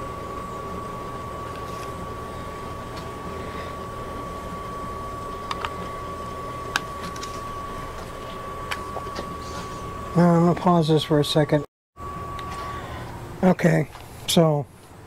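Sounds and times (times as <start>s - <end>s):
steady hum: 0.0s - 15.0s
thin high whine: 0.0s - 15.0s.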